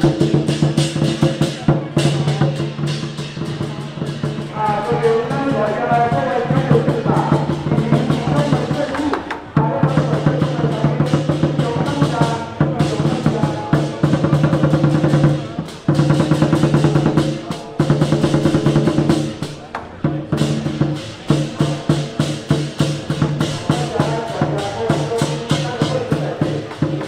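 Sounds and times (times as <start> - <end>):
clashing cymbals: 0.0 - 27.0
drums beaten in fast rolls: 0.0 - 27.0.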